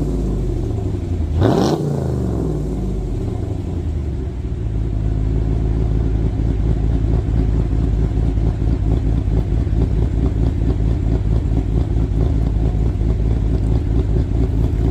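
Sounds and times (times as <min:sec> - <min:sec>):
engine exhaust rumbling at low revs: 0:00.0 - 0:14.9.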